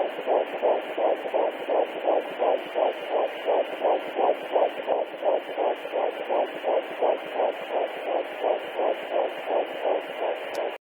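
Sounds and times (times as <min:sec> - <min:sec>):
fetal heartbeat on doppler speaker: 0:00.0 - 0:10.8.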